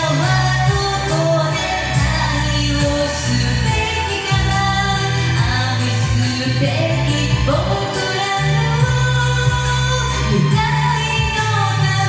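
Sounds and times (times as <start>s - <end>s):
pop ballad backing track: 0.0s - 12.0s.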